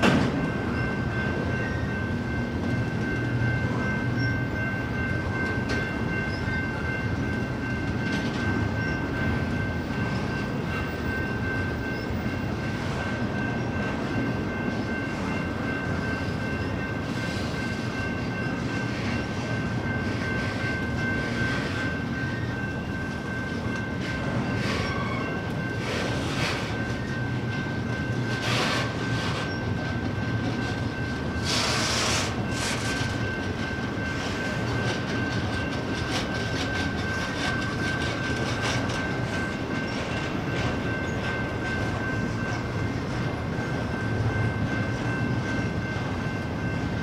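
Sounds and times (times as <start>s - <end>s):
train cars rumbling on rails: 0.0s - 47.0s.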